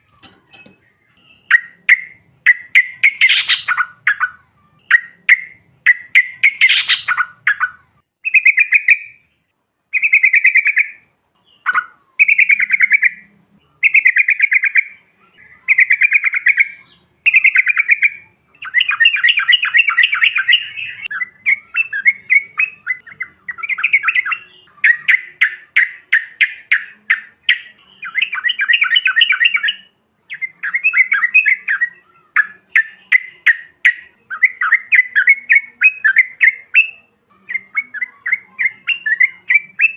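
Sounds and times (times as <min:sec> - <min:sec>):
bulbul song: 0:00.0 - 0:39.9.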